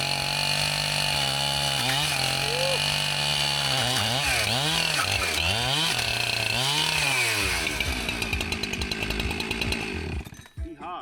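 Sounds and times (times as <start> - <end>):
chainsaw engine revving: 0.0 - 10.6.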